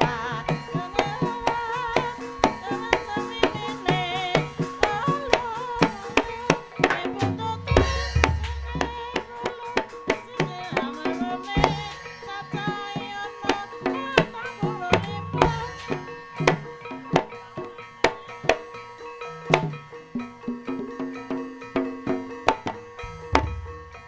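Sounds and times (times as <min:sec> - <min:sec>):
hand drum strokes: 0:00.0 - 0:24.0
ringing struck percussion notes: 0:00.0 - 0:24.0.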